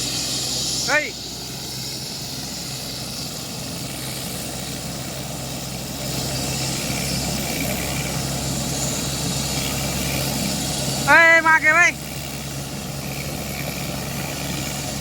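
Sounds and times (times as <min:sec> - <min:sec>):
helicopter engine and rotors: 0:00.0 - 0:15.0.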